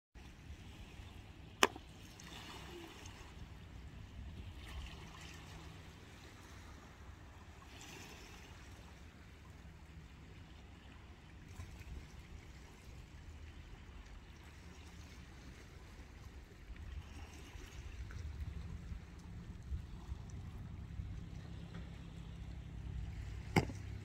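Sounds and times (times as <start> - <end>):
small waves lapping on shore: 0.2 - 24.0.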